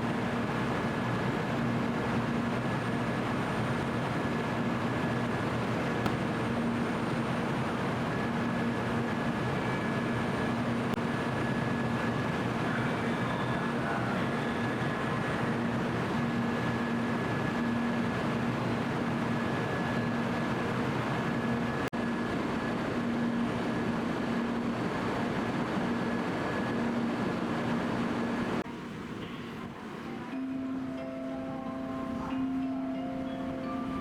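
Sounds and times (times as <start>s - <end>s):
train running noise: 0.0s - 34.0s.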